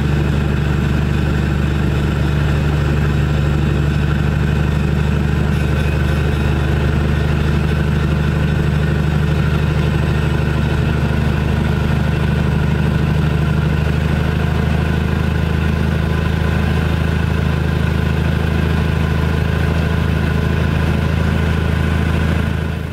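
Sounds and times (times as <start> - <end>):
locomotive diesel engine running: 0.0 - 22.9.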